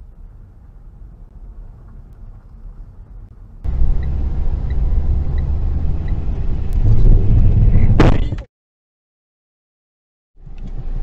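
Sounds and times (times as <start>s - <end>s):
car engine and road noise: 0.0s - 8.5s, 10.4s - 11.0s.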